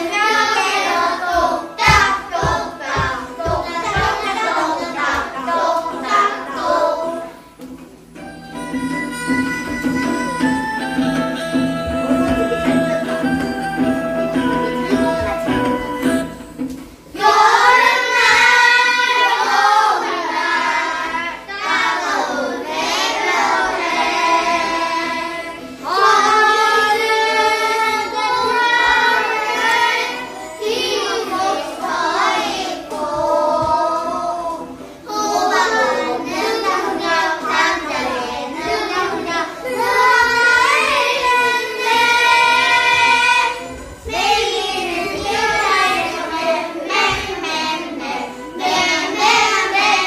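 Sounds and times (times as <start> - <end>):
children singing: 0.0 - 7.7, 8.6 - 50.0
instrumental accompaniment: 0.0 - 50.0.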